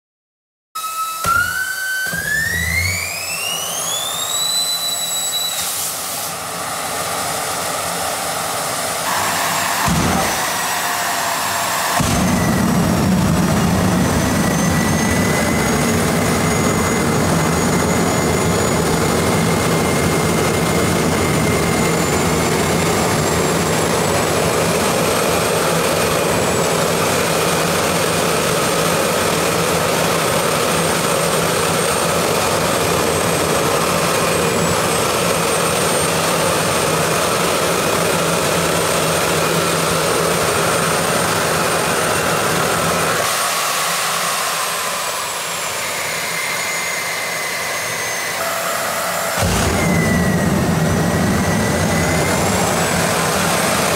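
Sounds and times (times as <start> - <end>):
high turbine whine: 0.8 - 53.9
jet engine roaring: 0.8 - 53.9.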